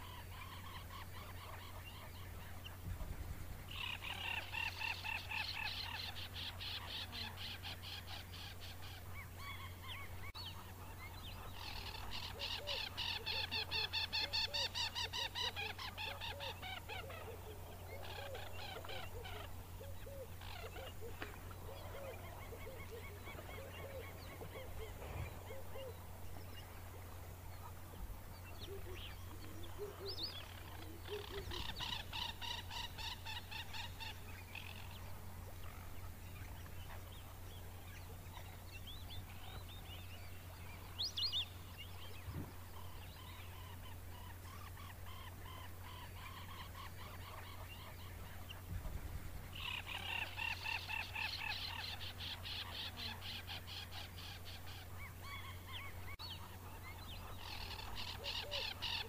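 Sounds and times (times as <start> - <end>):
low steady hum: 0.0 - 59.0
birds calling harshly: 3.6 - 59.0.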